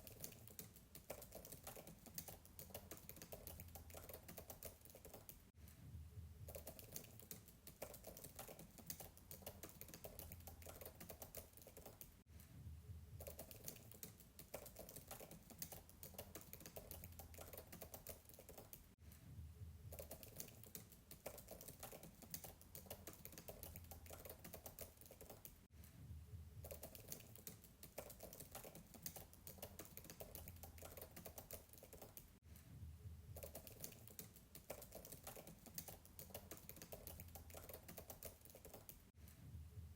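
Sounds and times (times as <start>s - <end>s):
faint keyboard typing: 0.0s - 5.5s, 6.4s - 12.2s, 13.1s - 19.0s, 19.8s - 25.7s, 26.6s - 32.4s, 33.3s - 39.1s.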